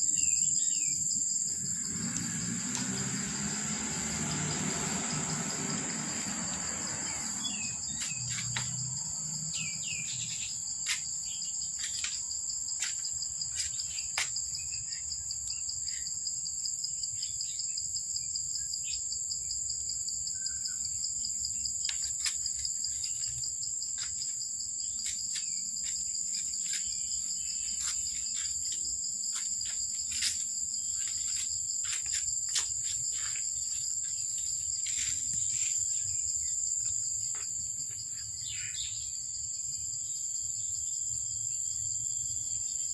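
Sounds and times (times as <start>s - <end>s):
high insect chorus: 0.0s - 42.9s.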